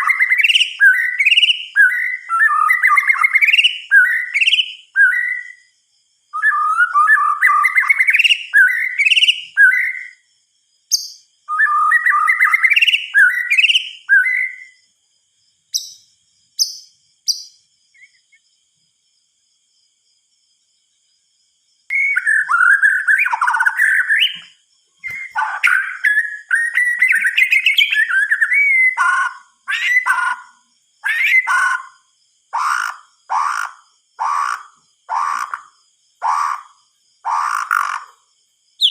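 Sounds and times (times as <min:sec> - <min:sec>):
bird singing warbled phrases: 0:00.0 - 0:10.3, 0:10.9 - 0:14.9, 0:15.7 - 0:18.5, 0:21.9 - 0:38.9.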